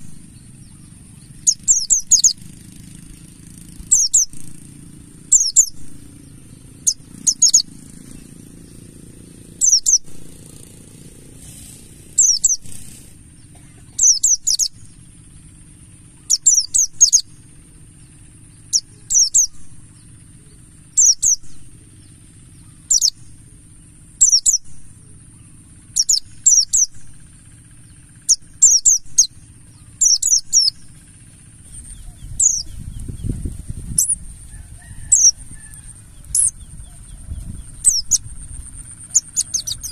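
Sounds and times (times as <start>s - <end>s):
bird chirping: 0.0s - 10.8s, 11.5s - 39.9s.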